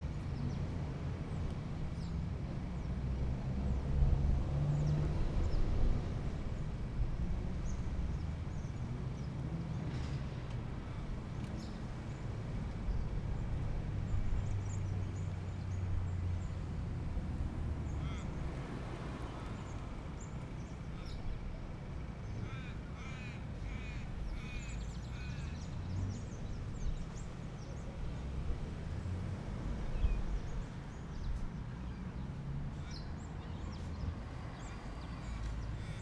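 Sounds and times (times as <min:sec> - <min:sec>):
car engines and traffic rumble: 0:00.0 - 0:36.0.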